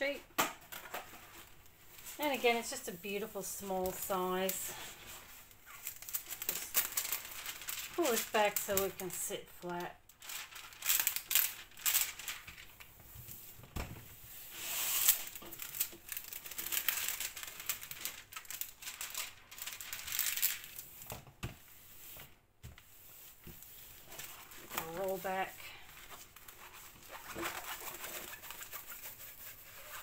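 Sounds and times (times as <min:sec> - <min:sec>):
plastic film crinkling: 0:00.8 - 0:13.0, 0:14.5 - 0:21.1, 0:23.3 - 0:30.0.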